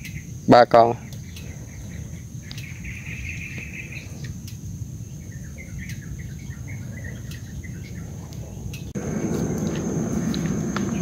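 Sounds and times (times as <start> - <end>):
birds calling: 0.0 - 11.0
insect drone: 0.0 - 11.0.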